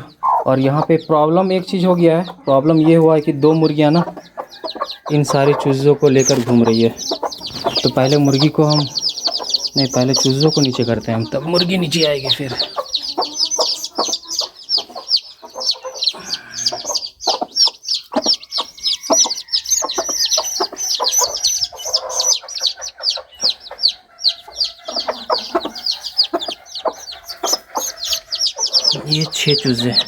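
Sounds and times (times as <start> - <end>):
chicks peeping: 0.0 - 30.0
hen clucking low: 0.0 - 30.0.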